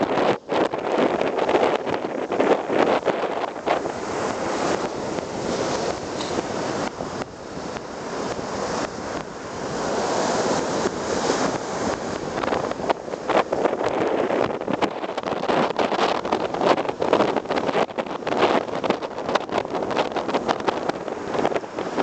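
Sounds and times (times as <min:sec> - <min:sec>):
sea surf breaking on beach: 0:00.0 - 0:22.0
wind buffeting microphone: 0:00.0 - 0:22.0.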